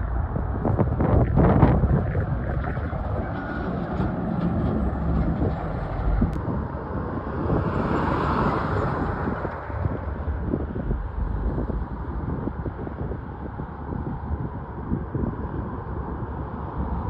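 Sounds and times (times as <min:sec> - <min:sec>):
heavy trucks passing: 0:00.0 - 0:17.0.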